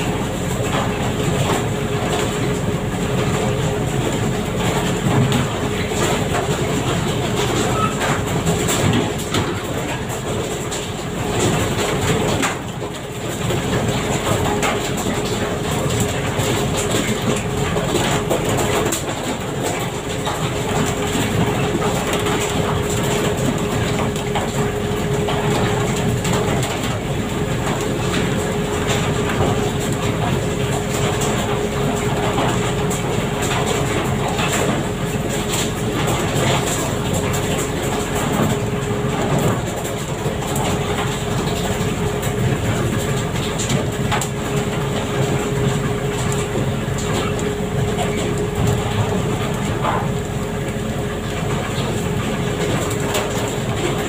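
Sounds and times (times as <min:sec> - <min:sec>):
engine hum: 0:00.0 - 0:54.0.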